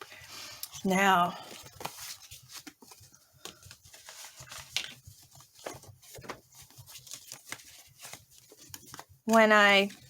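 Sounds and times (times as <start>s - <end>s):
paper envelopes rustling: 0.0s - 10.0s.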